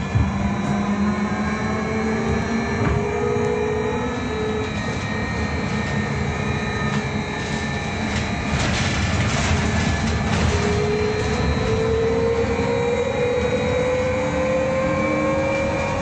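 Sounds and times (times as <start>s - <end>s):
running rumble: 0.0s - 14.2s
trolleybus motor whine: 0.0s - 16.0s.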